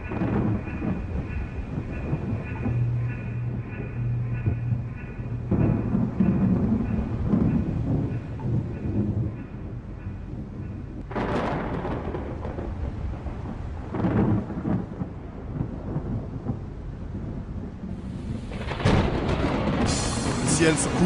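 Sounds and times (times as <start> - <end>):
steady rain: 0.0 - 21.0
thunder rolling: 0.0 - 21.0.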